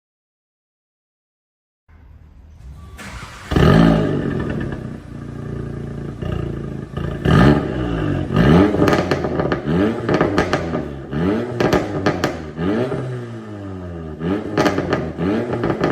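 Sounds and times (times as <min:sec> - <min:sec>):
car engine revving: 0:01.9 - 0:15.9.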